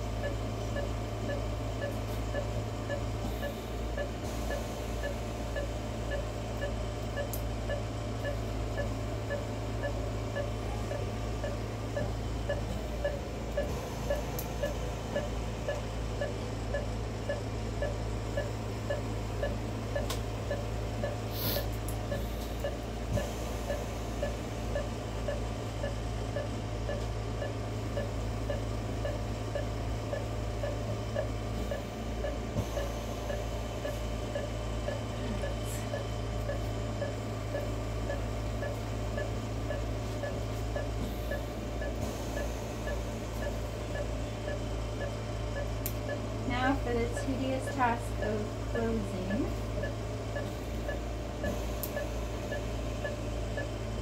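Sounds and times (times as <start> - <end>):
patient monitor beeping: 0.0 - 53.9
low hum of equipment: 0.0 - 54.0.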